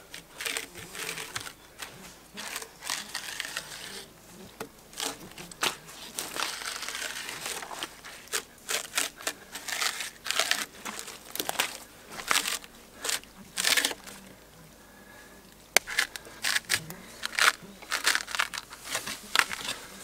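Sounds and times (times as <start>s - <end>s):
bark tearing and snapping: 0.0s - 14.4s, 15.7s - 20.0s.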